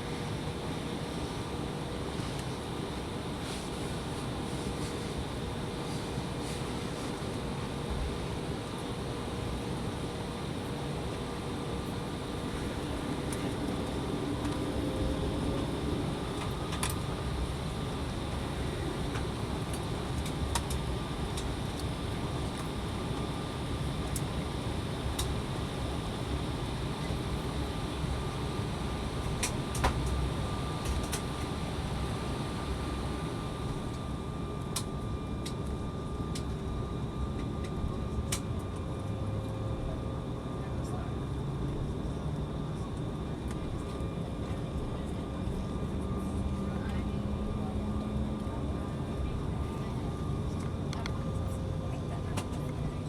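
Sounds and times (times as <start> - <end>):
jet engine cabin hum: 0.0 - 53.0.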